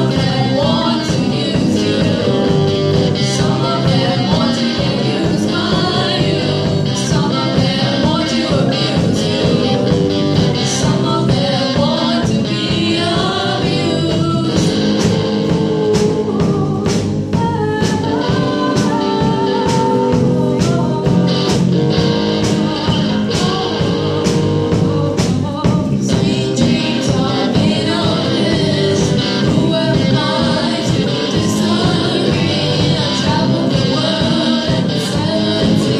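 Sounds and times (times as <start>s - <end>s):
person singing: 0.0s - 35.9s
rock band playing: 0.0s - 35.9s
steady drum beat: 0.0s - 35.9s.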